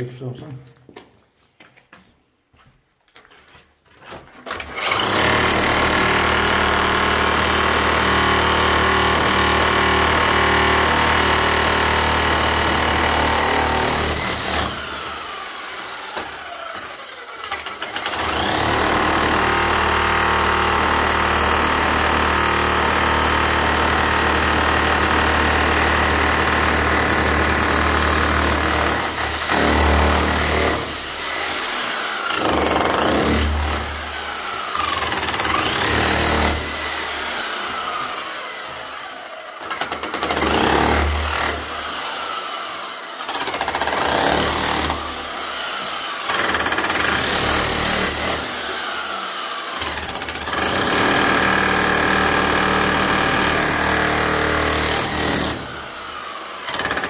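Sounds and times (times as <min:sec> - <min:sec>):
demolition hammer chiselling concrete: 0:04.4 - 0:57.0.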